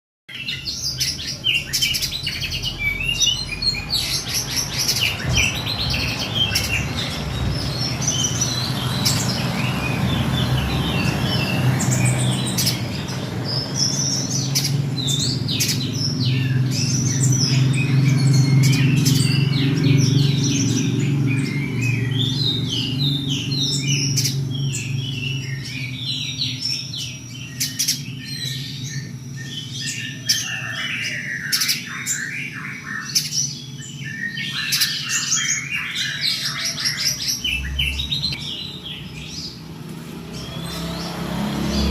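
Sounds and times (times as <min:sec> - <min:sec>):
bird chirping and trilling: 0:00.3 - 0:41.9.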